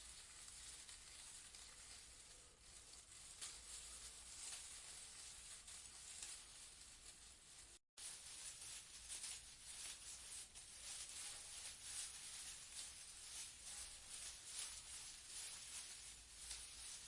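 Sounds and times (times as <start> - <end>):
leaves rustling in a breeze: 0.0 - 17.0.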